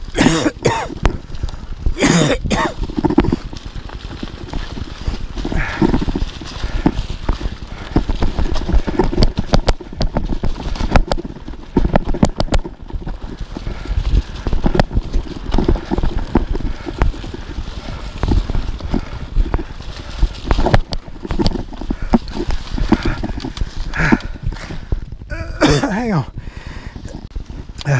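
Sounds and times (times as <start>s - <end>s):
tyres rolling over leaves: 0.0s - 26.2s
bike rattling over bumps: 0.0s - 27.9s
wind buffeting microphone: 0.0s - 27.9s.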